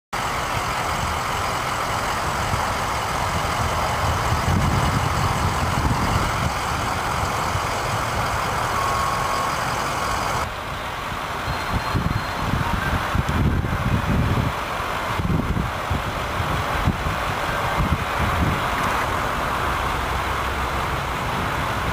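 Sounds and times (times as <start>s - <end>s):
fire engines idling: 0.1s - 21.9s.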